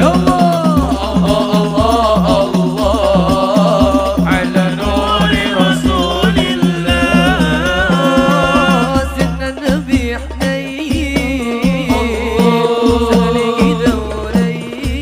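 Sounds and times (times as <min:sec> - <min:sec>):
music with repeating beat: 0:00.0 - 0:15.0.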